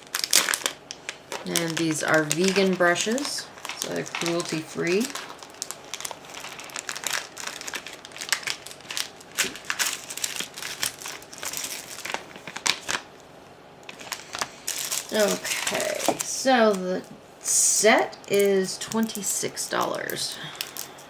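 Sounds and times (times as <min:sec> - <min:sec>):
plastic packaging crinkling: 0:00.0 - 0:17.1, 0:18.3 - 0:21.0.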